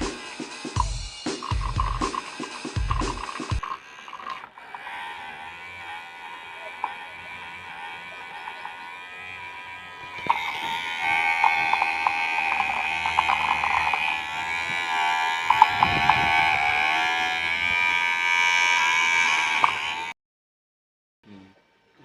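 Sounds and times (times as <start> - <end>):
small motor whining: 0.0 - 20.2.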